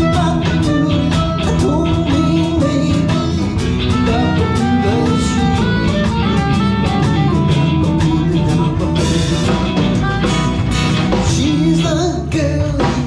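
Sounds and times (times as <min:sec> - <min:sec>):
bass: 0:00.0 - 0:13.0
drum kit beat: 0:00.0 - 0:13.0
electric guitar: 0:00.0 - 0:13.0
person singing: 0:00.0 - 0:13.0.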